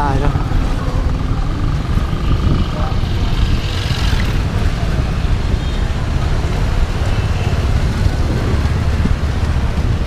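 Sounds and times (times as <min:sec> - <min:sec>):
road traffic: 0:00.0 - 0:10.0
wind rumble on microphone: 0:00.3 - 0:10.0.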